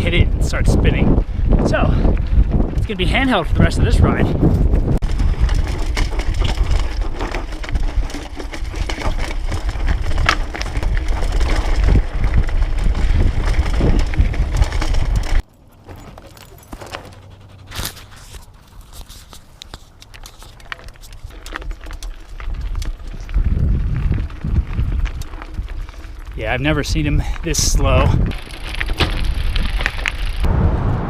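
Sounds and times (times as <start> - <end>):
wind noise on microphone: 0.0 - 15.4, 21.0 - 31.0
bike tyres crunching on gravel: 0.0 - 17.1, 17.8 - 30.5
bike rattles and clicks: 0.0 - 30.5.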